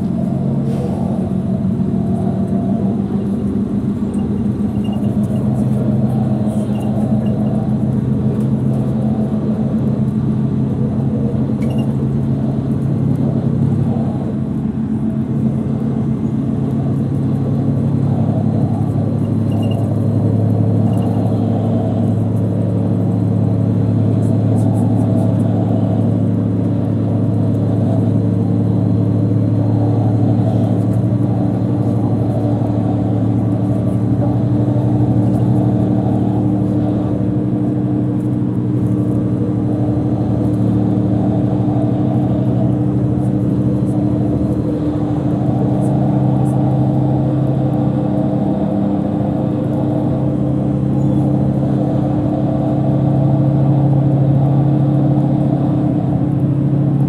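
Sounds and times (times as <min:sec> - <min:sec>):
bus engine drone: 0:00.0 - 0:57.0
road and tyre rumble: 0:00.0 - 0:57.0.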